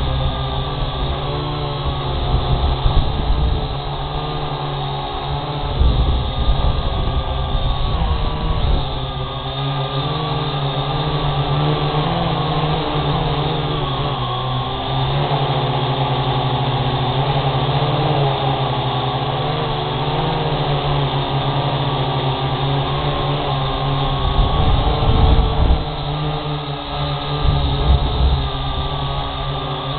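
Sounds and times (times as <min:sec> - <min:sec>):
quadcopter propellers whirring: 0:00.0 - 0:29.9.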